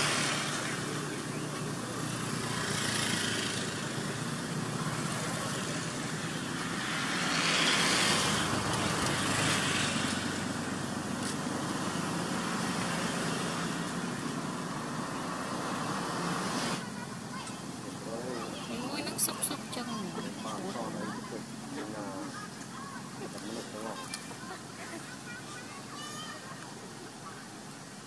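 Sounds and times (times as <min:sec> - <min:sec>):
outdoor noise: 0:00.0 - 0:28.0.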